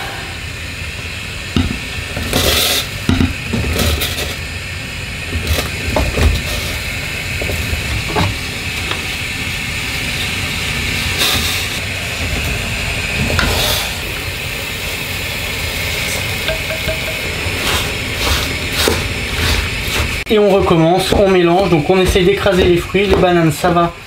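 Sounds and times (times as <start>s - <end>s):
hot pan hissing: 0.0s - 24.0s.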